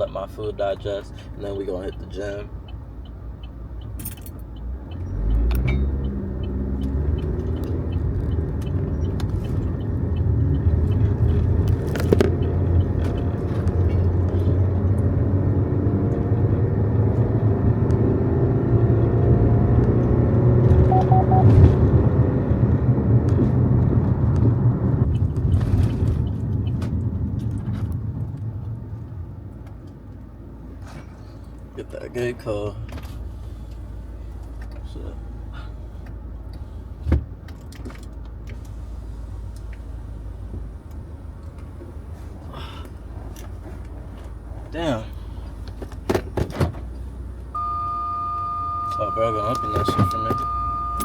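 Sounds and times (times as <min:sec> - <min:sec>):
car engine from inside cabin: 0:00.0 - 0:51.0
road rumble: 0:00.0 - 0:51.0.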